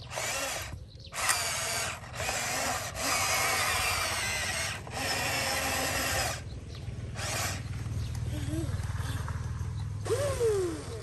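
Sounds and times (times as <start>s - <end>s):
small electric motors whirring: 0.0s - 9.1s, 10.0s - 11.0s.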